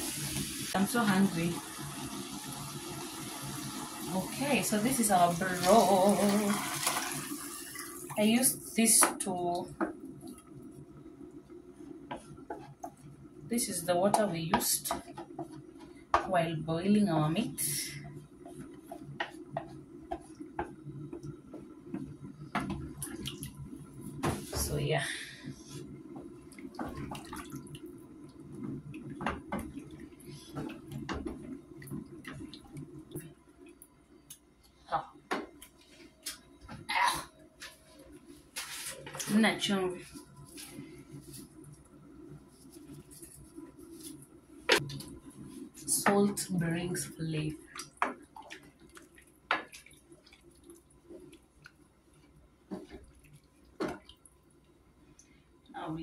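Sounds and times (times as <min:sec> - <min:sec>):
stew bubbling in a pot: 0:00.0 - 0:13.5, 0:14.1 - 0:36.9, 0:40.1 - 0:55.9.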